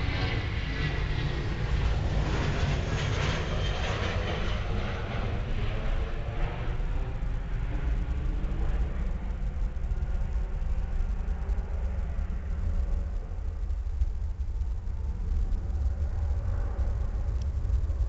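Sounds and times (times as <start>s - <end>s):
jet engines low rumble: 0.0s - 18.0s.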